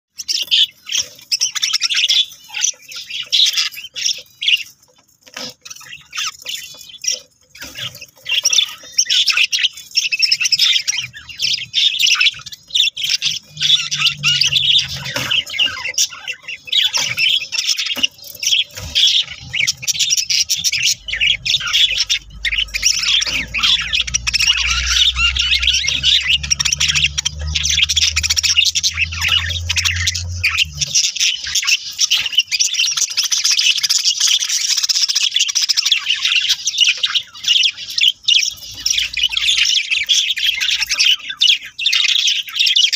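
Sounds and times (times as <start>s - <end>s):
budgerigars chattering: 0.1s - 42.9s.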